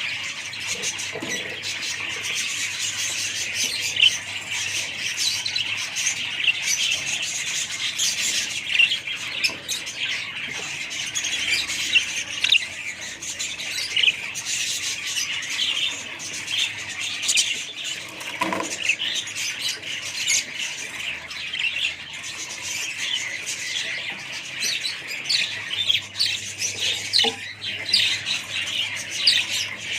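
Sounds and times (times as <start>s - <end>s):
budgerigars chattering: 0.0s - 29.9s.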